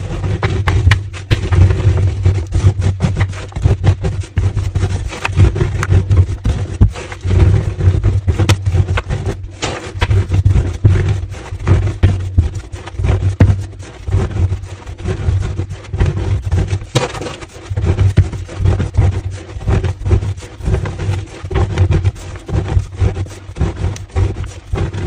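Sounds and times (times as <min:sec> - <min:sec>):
chalk being crushed by hand: 0:00.0 - 0:25.0.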